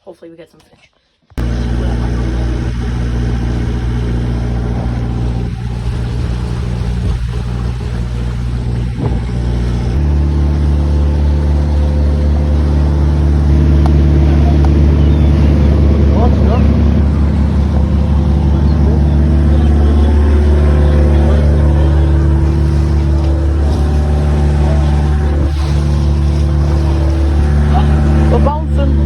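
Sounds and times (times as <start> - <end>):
boat engine running: 1.4 - 29.0.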